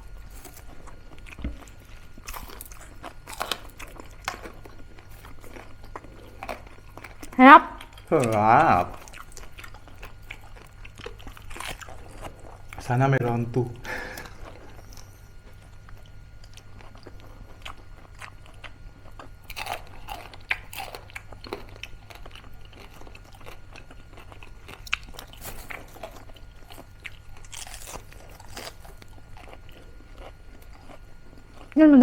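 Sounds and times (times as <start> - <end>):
crunching bites and chewing: 0.0 - 31.8.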